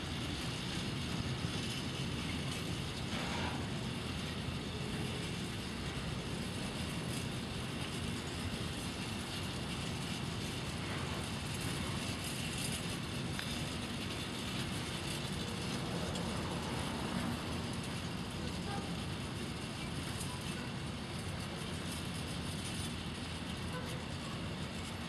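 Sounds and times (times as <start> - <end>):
train wheels on rails: 0.0 - 25.0.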